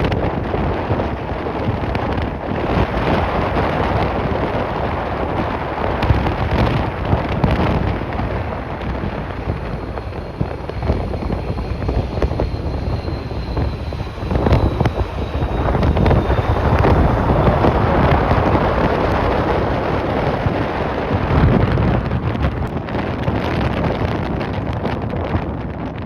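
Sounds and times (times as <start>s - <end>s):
faint high whine: 0.0s - 22.4s
gusty wind buffeting microphone: 0.0s - 26.0s.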